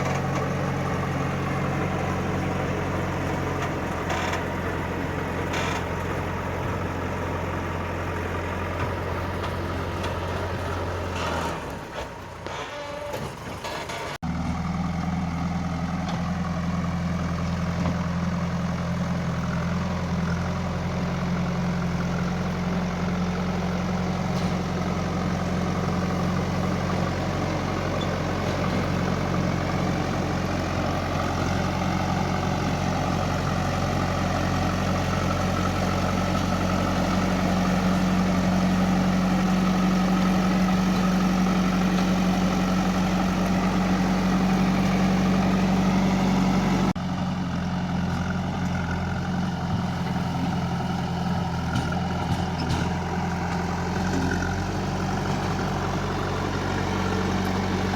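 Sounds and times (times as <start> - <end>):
diesel engine idling: 0.0 - 12.5, 14.2 - 57.9.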